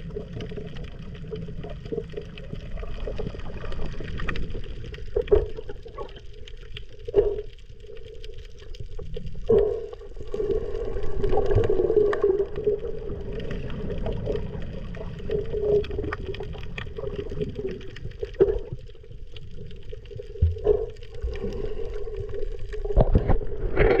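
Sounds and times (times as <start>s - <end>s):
underwater churning water and bubbles: 0.0s - 24.0s.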